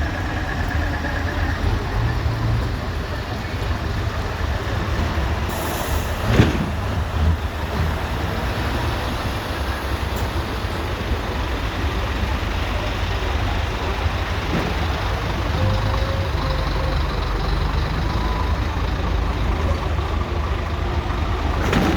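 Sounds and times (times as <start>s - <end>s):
truck diesel engines rumbling: 0.0s - 21.9s.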